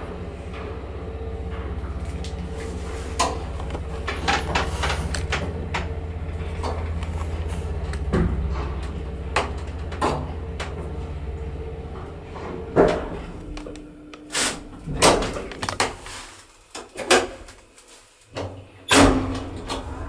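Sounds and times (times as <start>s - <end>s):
elevator machine humming: 0.0s - 17.8s, 18.4s - 20.0s.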